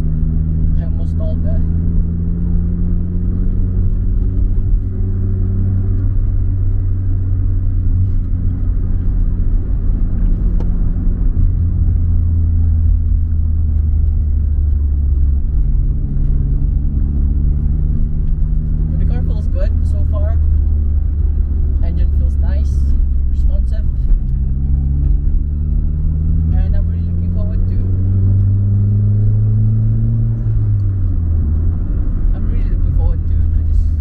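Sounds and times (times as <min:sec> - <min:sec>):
car engine running: 0:00.0 - 0:34.0
road rumble: 0:00.0 - 0:34.0.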